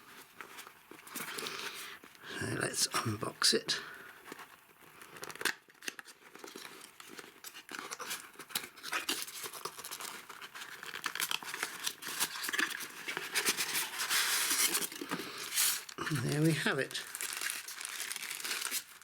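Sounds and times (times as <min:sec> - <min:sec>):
packaging rustling and crinkling: 0:00.0 - 0:02.2, 0:03.8 - 0:19.0.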